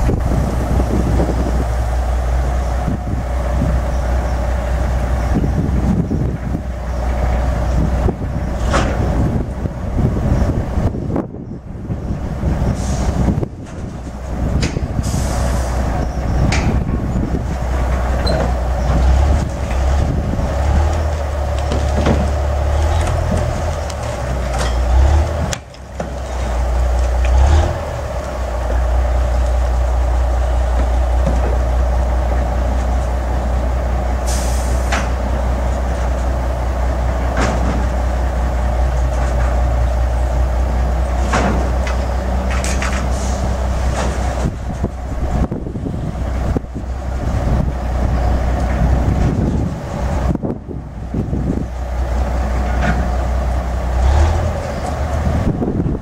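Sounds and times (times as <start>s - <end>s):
crane diesel engine running: 0.0s - 56.0s.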